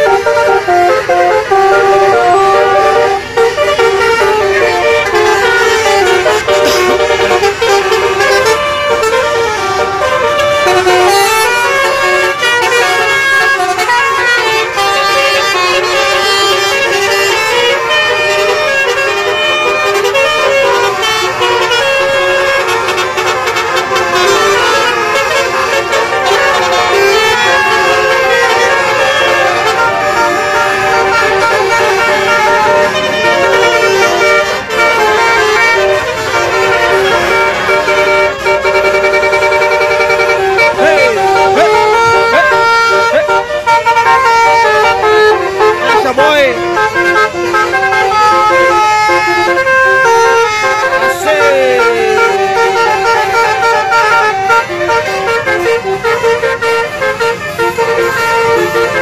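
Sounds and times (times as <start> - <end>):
musical air horn playing a tune: 0.0 - 59.0.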